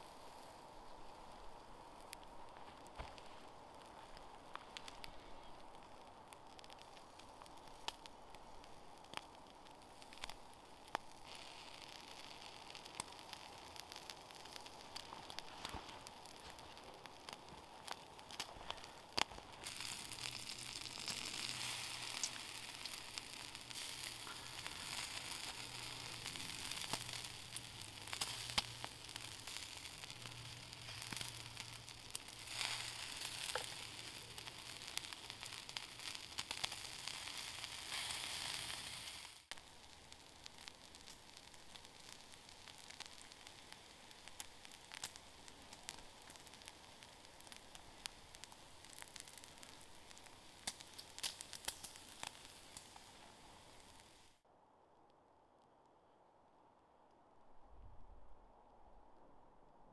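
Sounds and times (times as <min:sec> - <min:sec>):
bacon sizzling on embers: 0:00.0 - 0:54.4
fire pops and crackles: 0:00.0 - 0:54.4.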